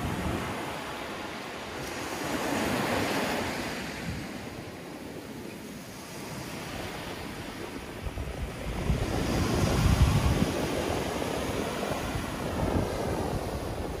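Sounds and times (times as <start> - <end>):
small waves washing onto beach: 0.0 - 14.0.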